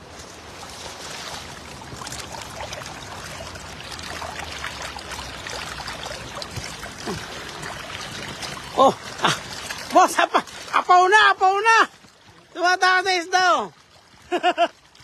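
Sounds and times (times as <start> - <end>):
small splashes and patters: 0.0 - 15.0
water streaming off a net: 0.0 - 15.0.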